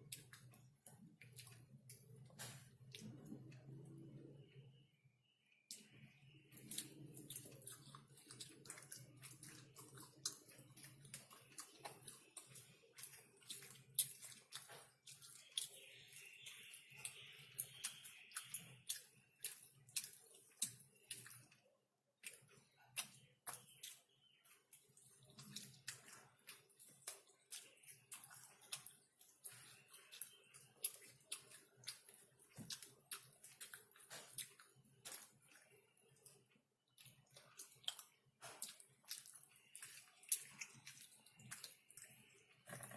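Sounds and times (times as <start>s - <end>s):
wet chewing and lip-smacking: 0.0s - 4.1s, 5.7s - 42.9s.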